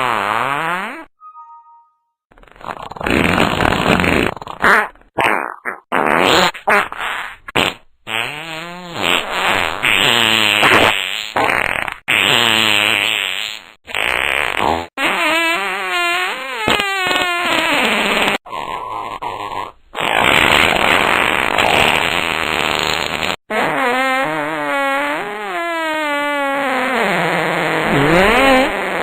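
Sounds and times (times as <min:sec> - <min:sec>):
fart noises: 0:00.0 - 0:01.1, 0:02.3 - 0:29.0.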